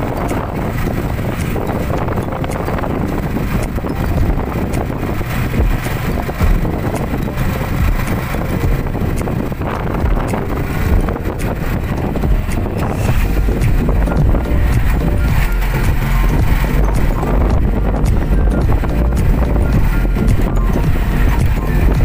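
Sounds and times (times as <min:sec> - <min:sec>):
motor tricycle engine running: 0:00.0 - 0:22.0
wind rumbling on microphone: 0:00.0 - 0:22.0.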